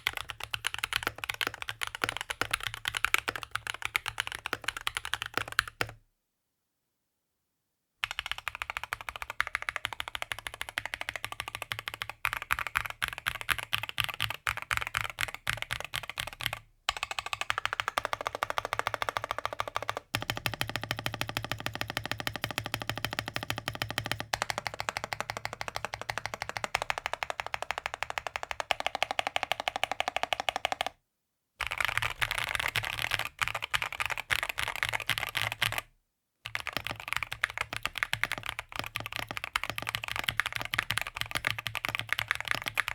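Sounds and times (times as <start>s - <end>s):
mechanical keyboard typing: 0.0s - 6.0s, 8.0s - 31.0s, 31.6s - 35.9s, 36.5s - 42.9s.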